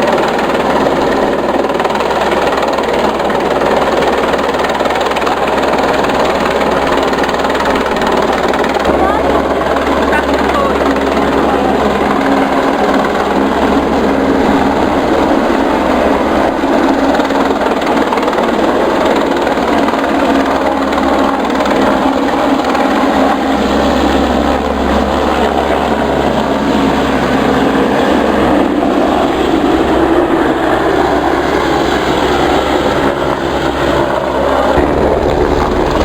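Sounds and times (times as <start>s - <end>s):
helicopter flying over: 0.0s - 36.0s.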